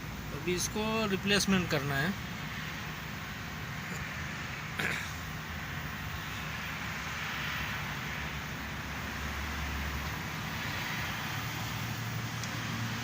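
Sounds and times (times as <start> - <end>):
traffic noise with low hum: 0.0 - 13.0.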